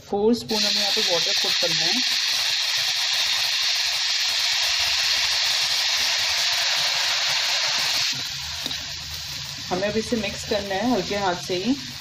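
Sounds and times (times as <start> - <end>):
water sizzling in hot fat: 0.4 - 12.0.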